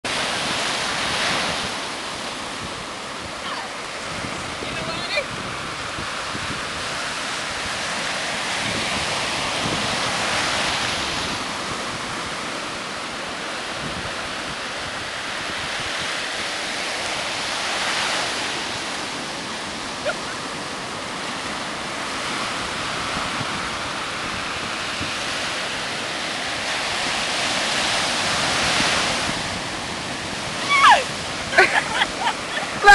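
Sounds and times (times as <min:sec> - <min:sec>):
ocean surf breaking: 0:00.0 - 0:32.9.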